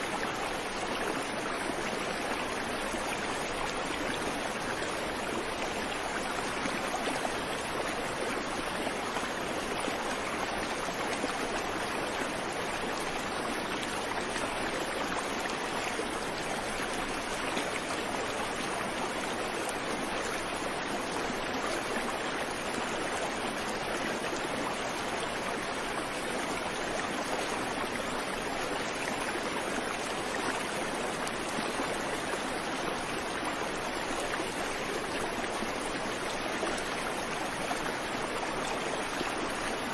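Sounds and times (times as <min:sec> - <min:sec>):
creek water babbling over stones: 0:00.0 - 0:39.9.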